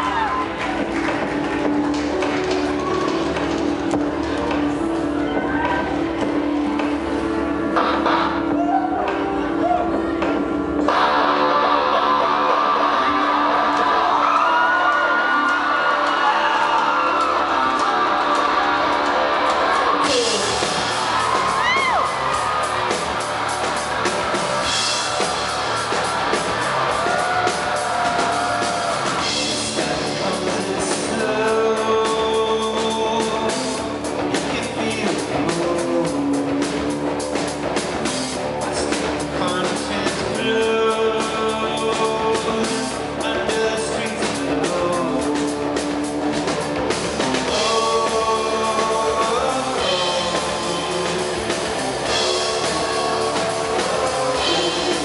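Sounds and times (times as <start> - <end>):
drums and cymbals: 0.0 - 55.0
electric guitar: 0.0 - 55.0
live rock band: 0.0 - 55.0
lead vocal singing: 7.9 - 37.0, 38.6 - 46.3, 47.2 - 55.0.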